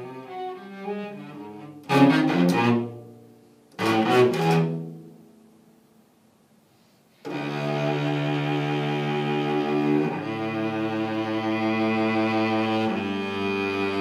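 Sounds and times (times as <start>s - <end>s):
cello bowed notes: 0.0s - 5.2s, 7.2s - 14.0s.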